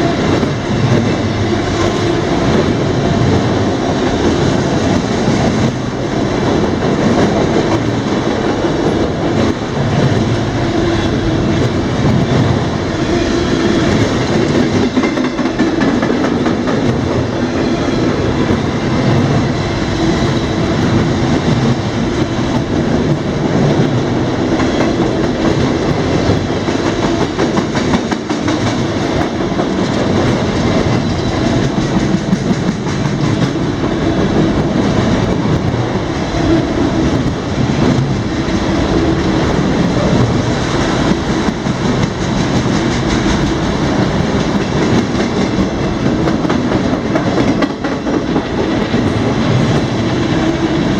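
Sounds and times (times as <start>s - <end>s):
freight train wheels rumbling: 0.0s - 50.9s
wheels clacking over rail joints: 0.0s - 50.9s.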